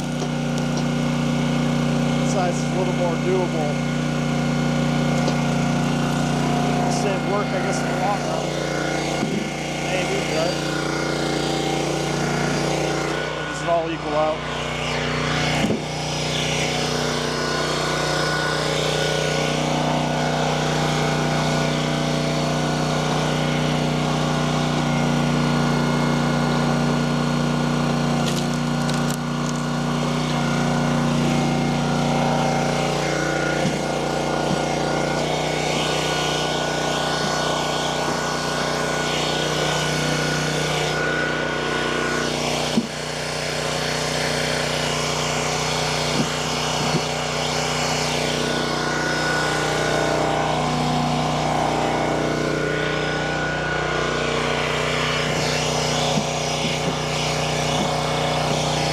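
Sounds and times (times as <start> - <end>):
small gas engine running: 0.0 - 58.9.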